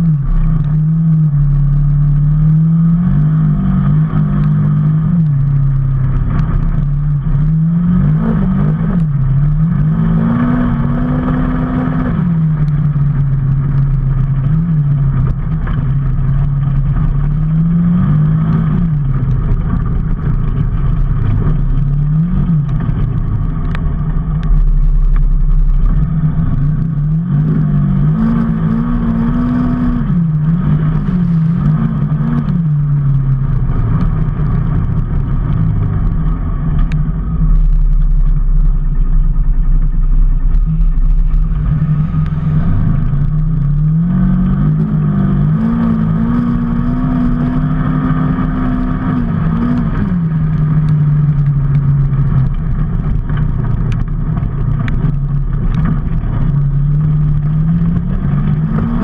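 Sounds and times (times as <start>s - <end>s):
vehicle engine revving: 0.0s - 59.0s
wind and road noise: 0.0s - 59.0s.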